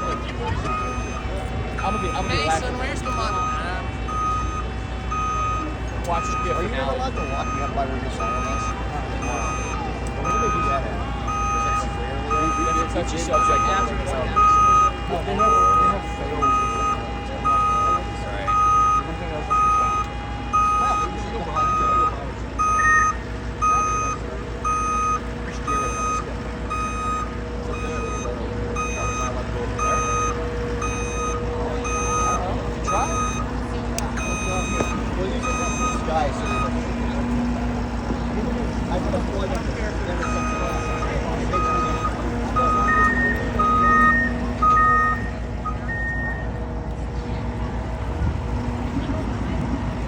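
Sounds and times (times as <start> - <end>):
low engine rumble: 0.0 - 50.0
vehicle backup alarm beeping: 0.0 - 50.0.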